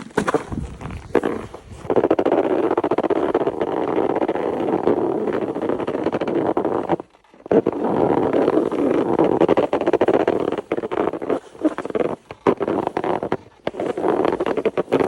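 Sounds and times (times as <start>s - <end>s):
snow creaking and crunching: 0.0s - 15.0s.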